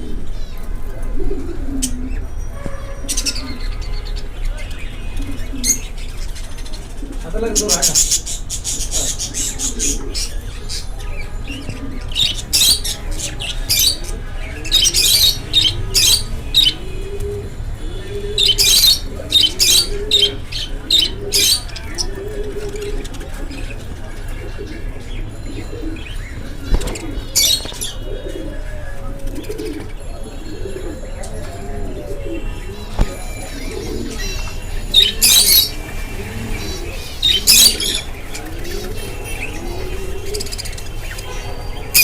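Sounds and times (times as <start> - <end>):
low repeated cooing calls: 0.0 - 42.0
budgerigars chirping: 1.8 - 28.4, 32.0 - 42.0.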